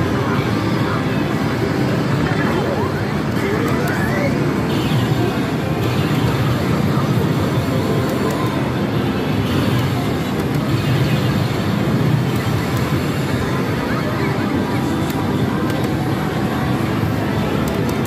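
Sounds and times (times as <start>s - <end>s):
slot machine music and effects: 0.1s - 18.0s.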